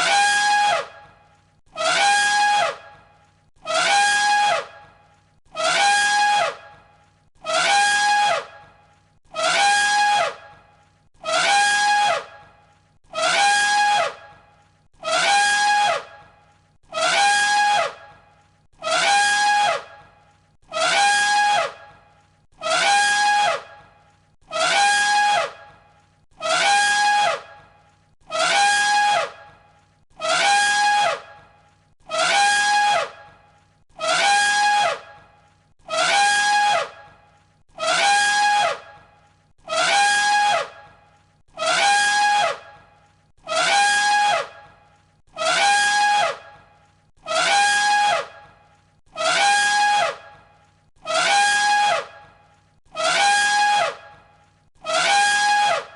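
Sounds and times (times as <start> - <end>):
elephant trumpet call: 0.0 - 1.1, 1.7 - 3.0, 3.6 - 4.8, 5.5 - 6.8, 7.4 - 8.7, 9.3 - 10.6, 11.2 - 14.3, 15.0 - 18.2, 18.8 - 23.9, 24.5 - 27.7, 28.3 - 33.4, 34.0 - 37.2, 37.8 - 41.0, 41.6 - 46.6, 47.2 - 55.9.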